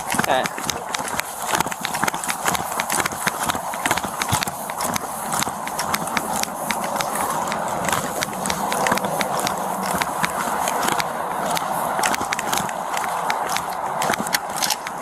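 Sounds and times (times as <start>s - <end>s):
clicks and knocks of carried gear: 0.0s - 15.0s
footsteps: 0.0s - 15.0s.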